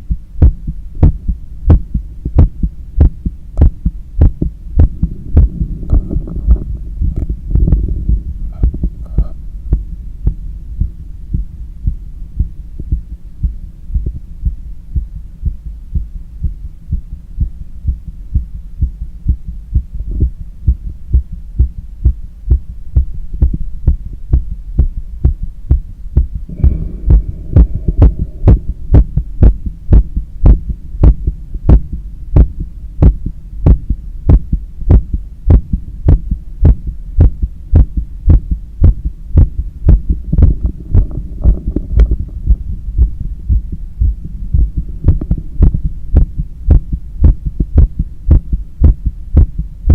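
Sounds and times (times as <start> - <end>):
heartbeat through stethoscope: 0.0 - 49.9
steady low hum: 0.0 - 49.9.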